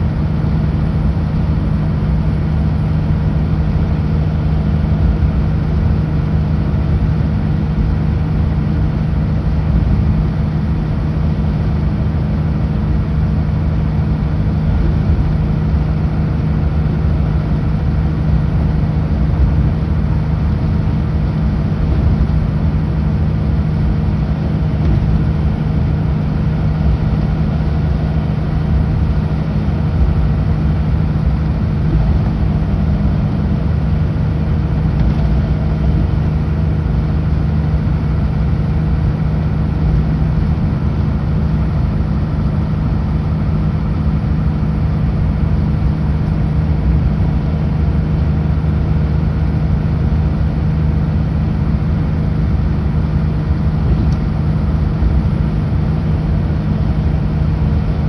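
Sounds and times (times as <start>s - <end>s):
diesel truck engine droning: 0.0s - 58.0s
road noise: 0.0s - 58.0s.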